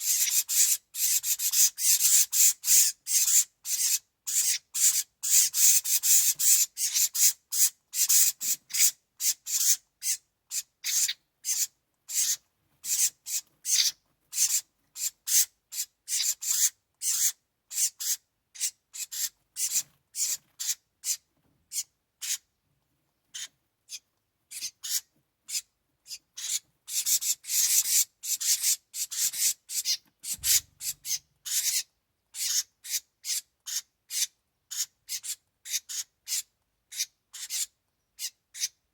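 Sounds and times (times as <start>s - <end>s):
nestlings raspy begging calls: 0.0s - 22.5s, 23.3s - 38.8s.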